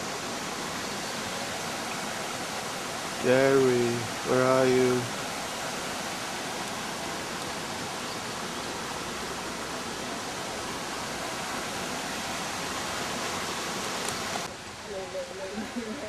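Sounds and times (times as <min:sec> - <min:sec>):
waterfall rushing: 0:00.0 - 0:14.5.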